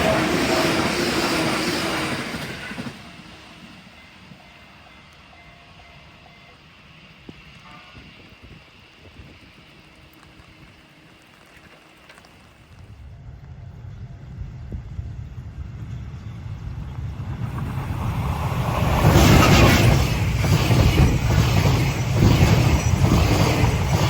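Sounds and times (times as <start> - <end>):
train rushing past: 0.0 - 24.0.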